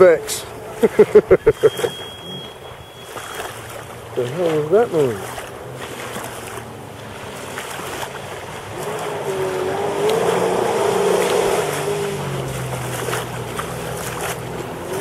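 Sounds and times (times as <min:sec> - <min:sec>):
jet ski engine whine: 0:00.0 - 0:15.0
water spray wash: 0:00.0 - 0:15.0.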